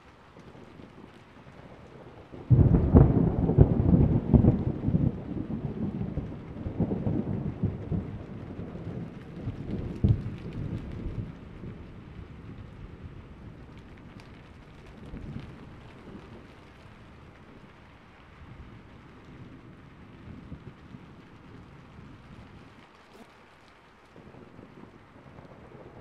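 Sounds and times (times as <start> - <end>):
steady rain: 0.0 - 26.0
thunder clap and rumble: 0.3 - 26.0.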